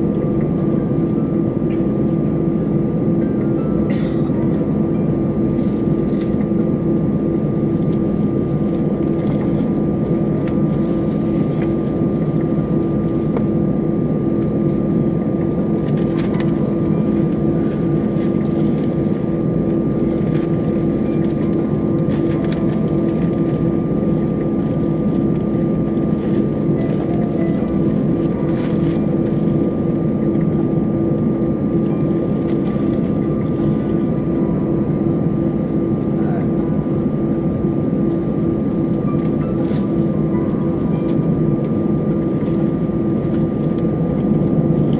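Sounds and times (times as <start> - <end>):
jet engines idling: 0.0 - 44.9.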